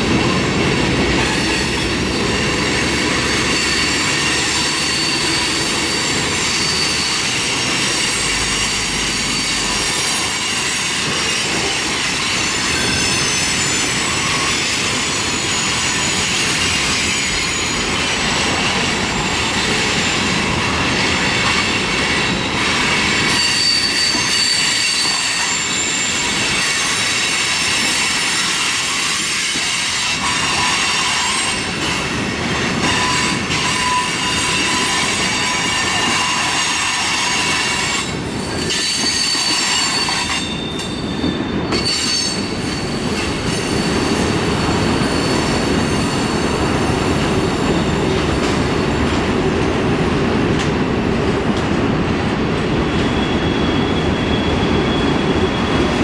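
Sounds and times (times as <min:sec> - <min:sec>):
train wheels rumbling on rails: 0:00.0 - 0:56.0
wheels squealing on rail: 0:00.0 - 0:56.0.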